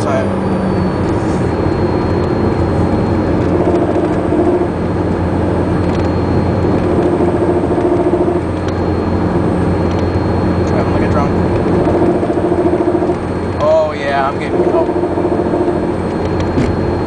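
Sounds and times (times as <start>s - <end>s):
engine and road noise drone: 0.0s - 17.0s
higher hum: 0.2s - 17.0s.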